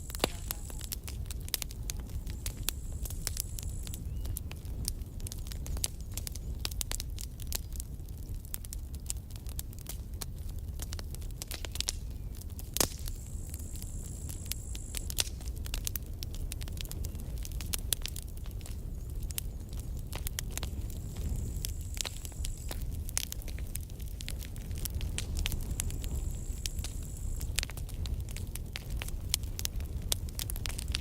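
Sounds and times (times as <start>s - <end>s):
low rumble of fire: 0.0s - 31.0s
wood crackling and popping: 0.0s - 31.0s.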